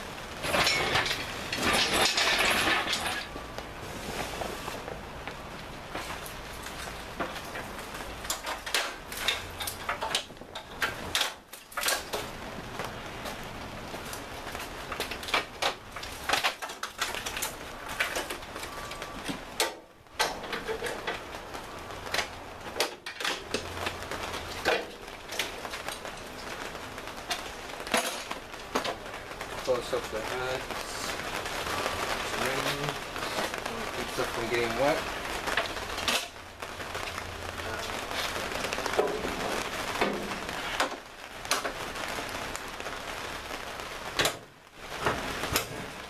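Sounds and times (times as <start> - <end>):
wiring and hoses rattling: 0.0 - 46.0.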